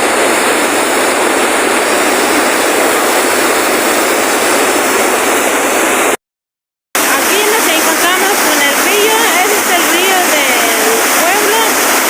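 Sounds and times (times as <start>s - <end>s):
loud steady rushing noise: 0.0s - 6.2s, 7.0s - 12.0s.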